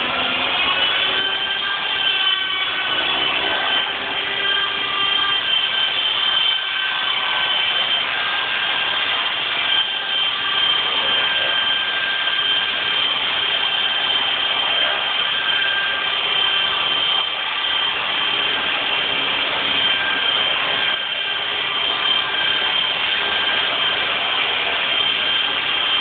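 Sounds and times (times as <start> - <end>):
rc helicopter hovering: 0.0 - 26.0.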